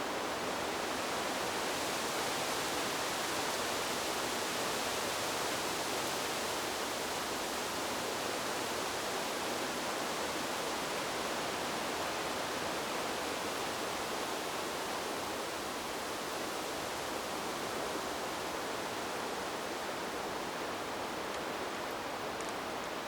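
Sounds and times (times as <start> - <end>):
wind through bamboo leaves: 0.0 - 23.0.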